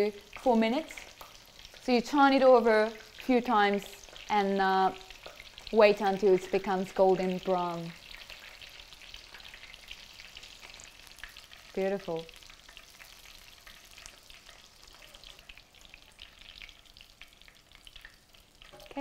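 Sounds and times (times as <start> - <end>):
prawns deep-frying in oil: 0.0 - 19.0.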